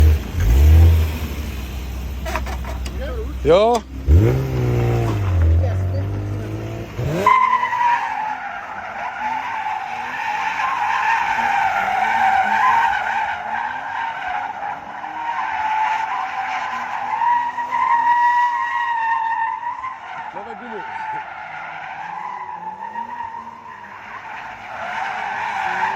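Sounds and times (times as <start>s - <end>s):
car engine revving: 0.0s - 25.9s
tyres screeching: 1.9s - 25.9s.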